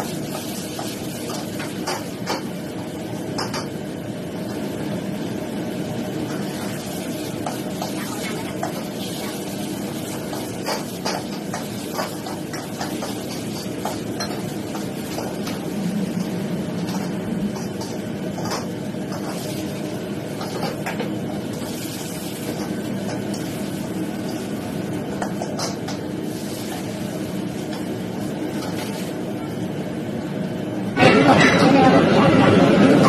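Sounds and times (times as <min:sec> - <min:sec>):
steady background rush: 0:00.0 - 0:33.0.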